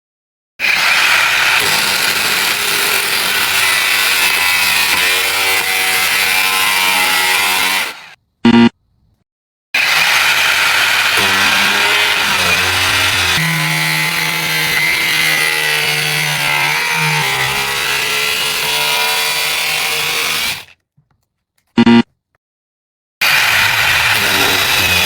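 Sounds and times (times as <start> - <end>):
angle grinder cutting: 0.6 - 8.2, 9.8 - 20.8, 23.2 - 25.0.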